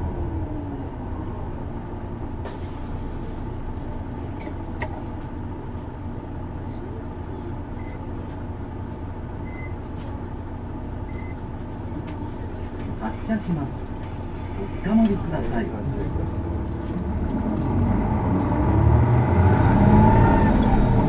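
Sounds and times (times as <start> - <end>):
bus diesel engine humming: 0.0 - 21.0.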